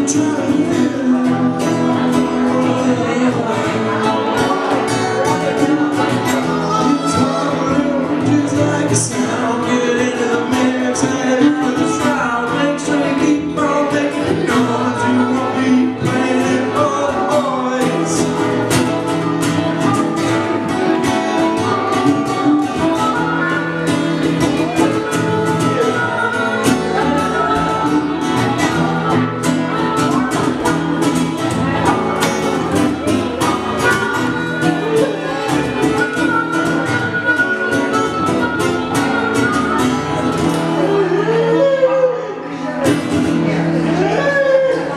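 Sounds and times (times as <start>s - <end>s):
harmonica: 0.0s - 44.9s
strummed acoustic guitar: 0.0s - 44.9s
upright bass: 0.0s - 44.9s.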